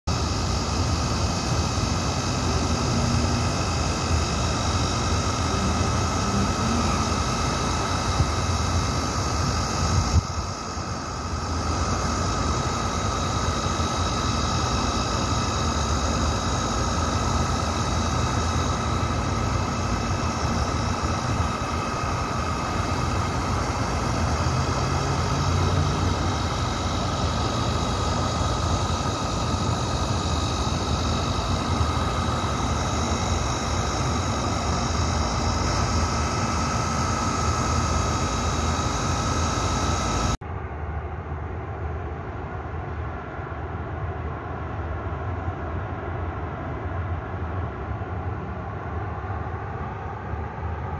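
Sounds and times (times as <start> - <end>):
mechanical drone with whining tones: 0.0 - 50.9.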